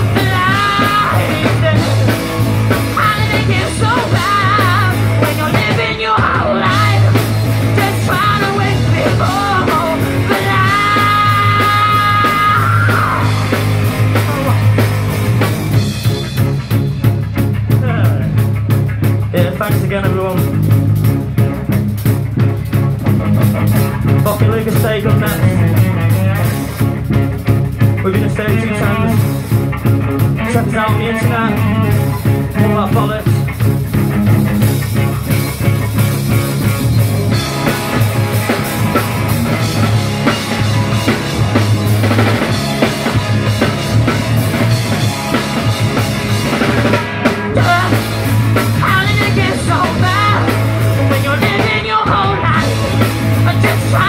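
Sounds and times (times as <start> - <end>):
drum kit steady beat: 0.0 - 54.0
live rock band playing: 0.0 - 54.0.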